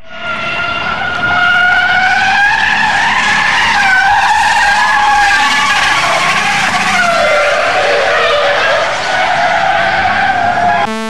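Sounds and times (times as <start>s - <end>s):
car tyres squealing: 0.0s - 10.9s.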